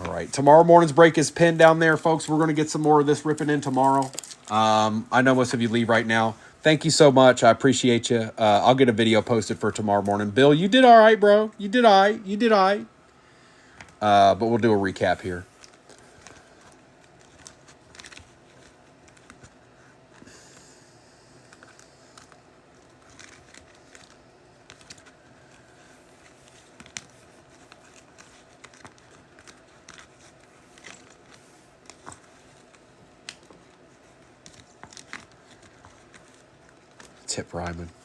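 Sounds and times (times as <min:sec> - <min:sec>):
trading cards being handled: 0:00.0 - 0:08.0, 0:08.6 - 0:38.0
faint room hum: 0:00.0 - 0:38.0.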